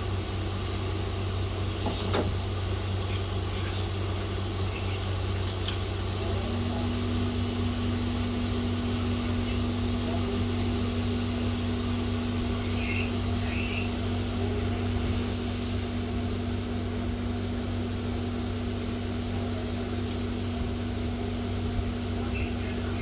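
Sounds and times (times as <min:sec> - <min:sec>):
machine hum with hiss: 0:00.0 - 0:23.0.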